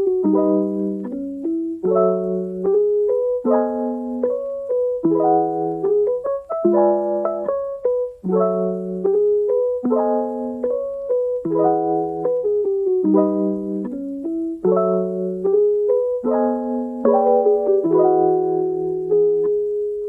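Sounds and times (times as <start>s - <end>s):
calm piano music: 0.0s - 20.0s.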